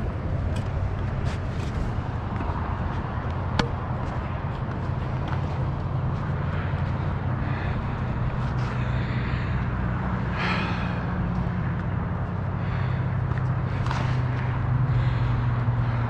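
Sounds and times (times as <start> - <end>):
low engine-like hum: 0.0 - 16.0
road traffic haze: 0.0 - 16.0.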